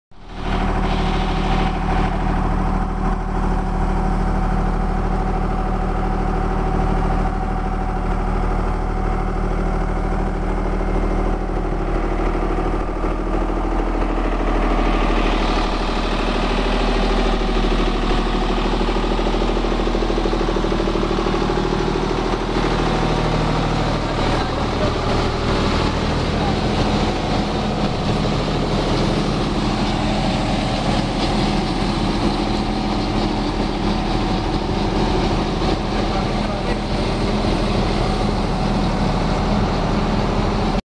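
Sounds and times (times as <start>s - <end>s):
tractor diesel engine running: 0.1s - 40.8s.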